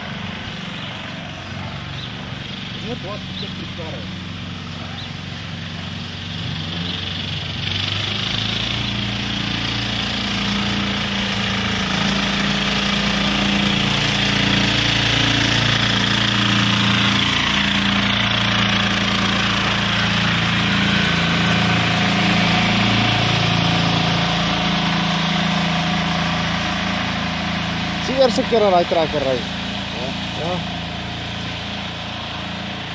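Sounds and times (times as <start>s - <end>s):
tractor diesel engine passing: 0.0s - 32.9s.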